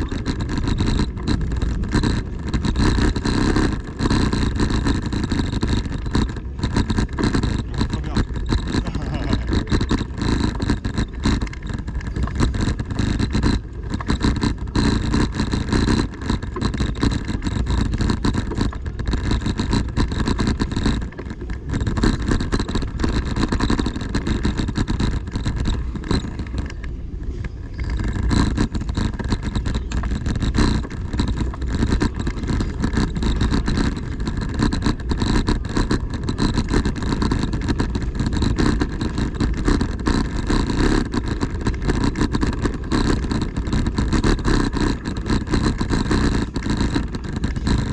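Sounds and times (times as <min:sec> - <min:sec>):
rumble and hiss on cobbles: 0:00.0 - 0:47.9.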